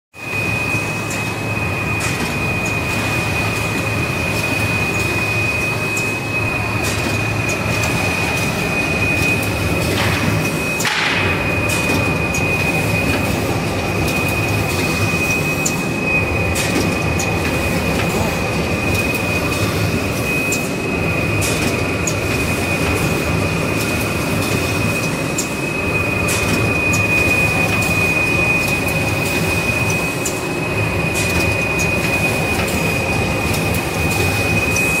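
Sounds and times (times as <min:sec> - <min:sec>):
high-pitched machine whine: 0:00.2 - 0:35.0.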